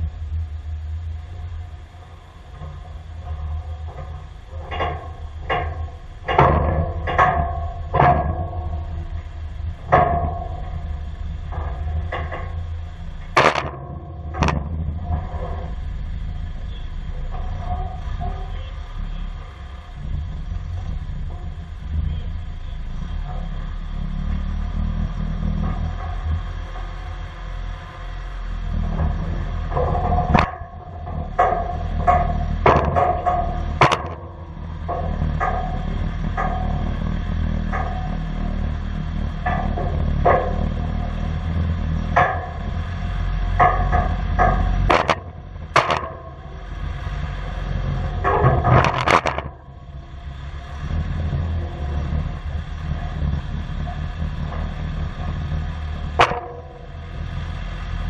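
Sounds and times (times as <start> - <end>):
diesel engine rumbling: 0.0 - 58.0
ringing metallic clanks: 2.3 - 58.0.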